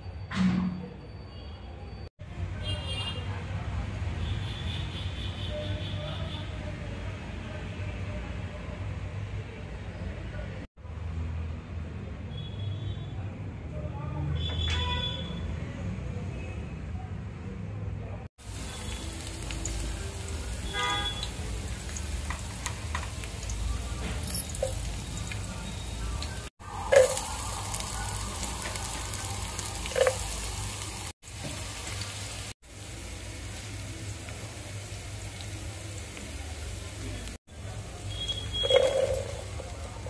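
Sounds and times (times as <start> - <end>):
garlic and onion frying in oil: 1.8 - 13.0, 18.4 - 40.0.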